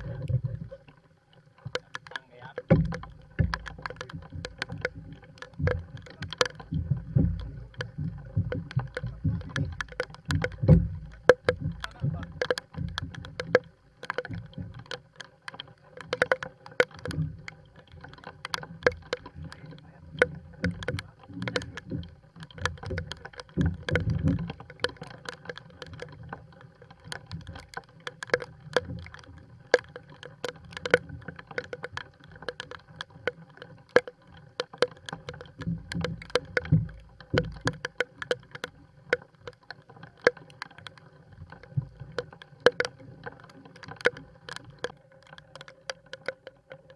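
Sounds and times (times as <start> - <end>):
water thudding against hull: 0.0 - 46.9
sharp taps and clicks: 1.6 - 46.9.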